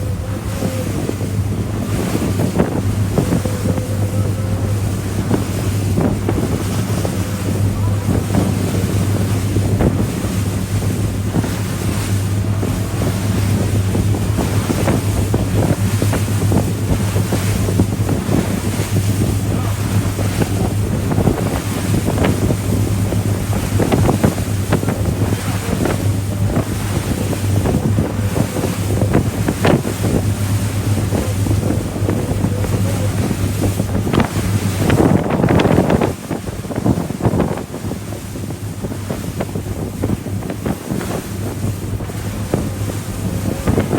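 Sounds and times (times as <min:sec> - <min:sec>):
boat engine hum: 0:00.0 - 0:43.9
water splashing and rushing: 0:00.0 - 0:43.9
wind buffeting microphone: 0:00.0 - 0:43.9.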